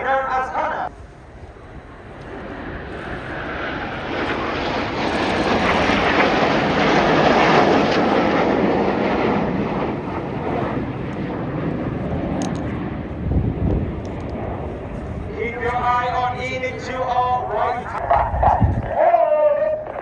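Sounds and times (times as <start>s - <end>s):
jets flying past: 0.0s - 20.0s.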